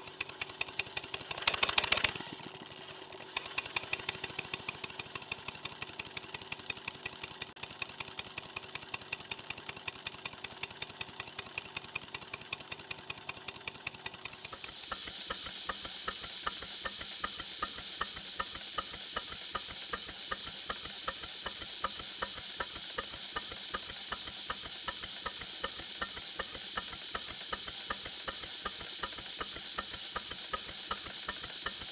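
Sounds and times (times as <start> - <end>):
air hissing: 0.0 - 31.9
model steam engine clicking: 0.0 - 31.9.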